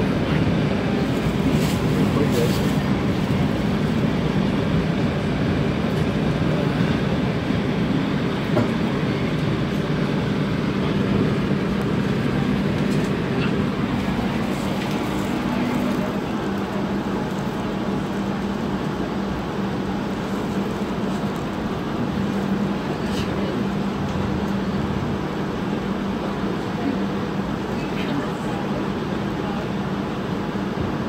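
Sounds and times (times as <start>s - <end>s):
streetcar rumbling on rails: 0.0s - 31.0s.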